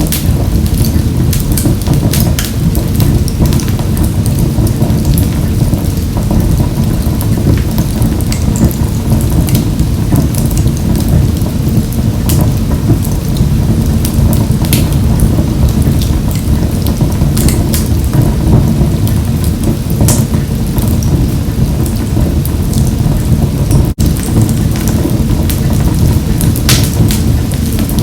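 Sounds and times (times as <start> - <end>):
stove flames rumbling: 0.0 - 28.0
wood fire crackling and popping: 0.0 - 28.0.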